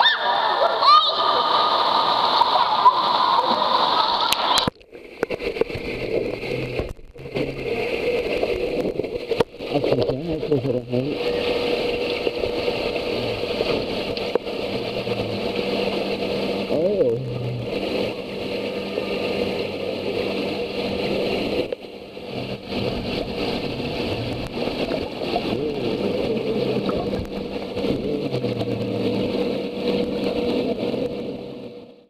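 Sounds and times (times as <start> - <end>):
muffled rushing water underwater: 0.0 - 32.0
steady low hum: 1.4 - 32.0.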